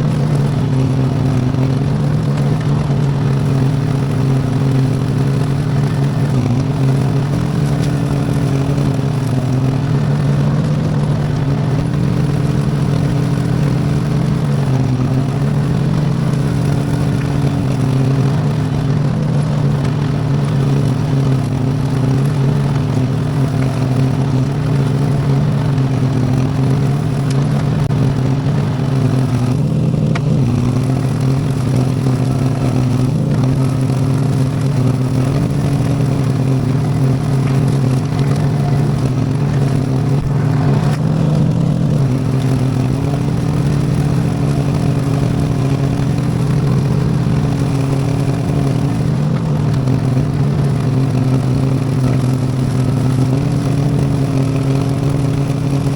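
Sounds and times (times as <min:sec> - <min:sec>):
tractor engine mowing: 0:00.0 - 0:55.9.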